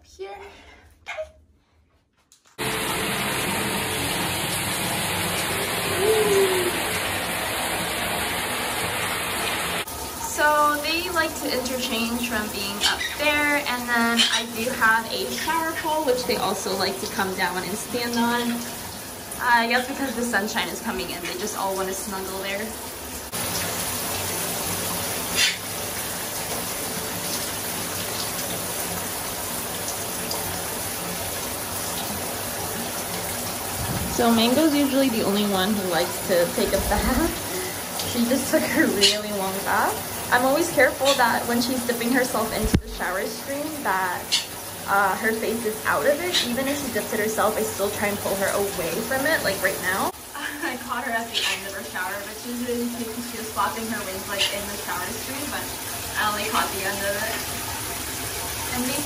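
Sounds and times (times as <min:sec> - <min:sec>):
shower running: 0:02.3 - 0:59.0.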